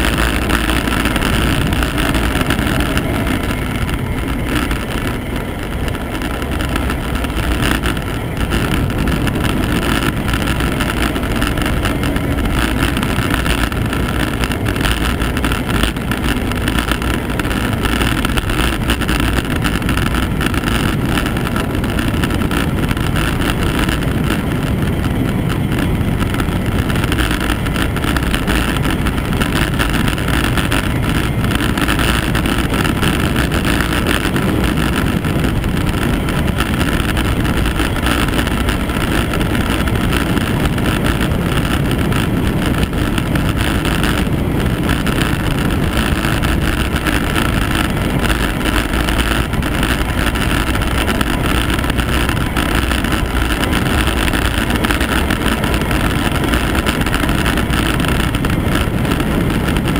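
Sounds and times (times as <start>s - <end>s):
wind roaring over microphone: 0.0s - 59.9s.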